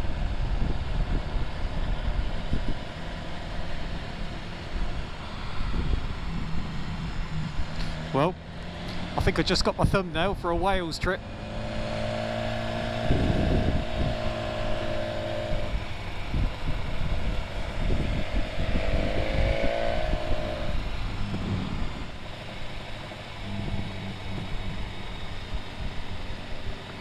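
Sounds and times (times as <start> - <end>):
wind buffeting microphone: 0.0 - 26.9
motorcycle engine running: 0.0 - 27.0.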